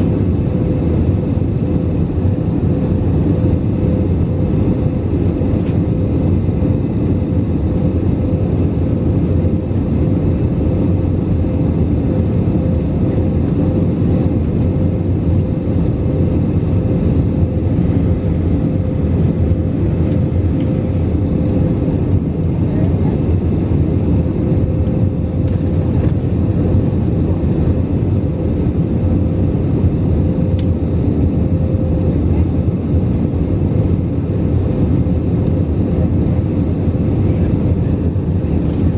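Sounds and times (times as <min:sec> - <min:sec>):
airplane cabin air and engine drone: 0:00.0 - 0:38.9.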